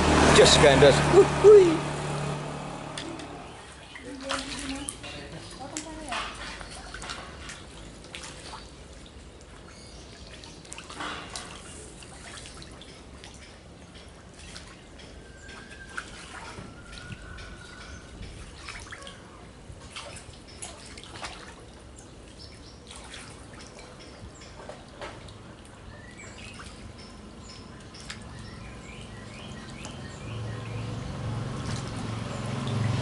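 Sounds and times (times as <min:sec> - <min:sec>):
water dripping and trickling: 0:01.8 - 0:33.0.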